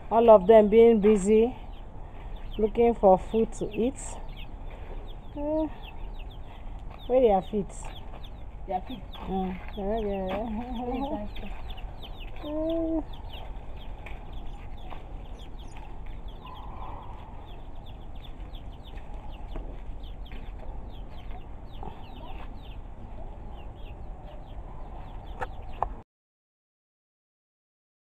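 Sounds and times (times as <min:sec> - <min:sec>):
chickens peeping: 0:00.0 - 0:26.0
chickens clucking: 0:00.1 - 0:26.0.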